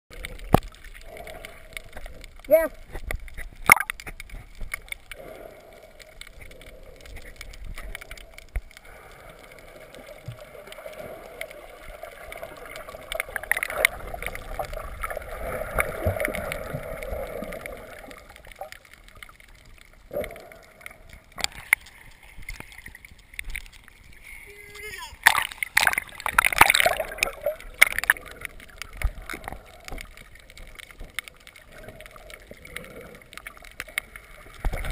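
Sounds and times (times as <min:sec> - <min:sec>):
faint clicks: 0:00.1 - 0:24.4, 0:25.2 - 0:34.9
water splashes: 0:00.1 - 0:34.9.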